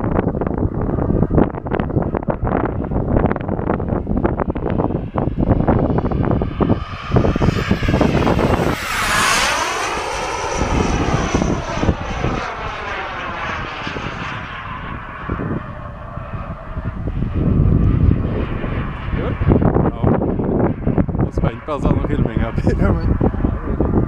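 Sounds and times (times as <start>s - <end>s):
model jet turbine whine: 0.0s - 24.0s
wind buffeting microphone: 0.0s - 24.0s.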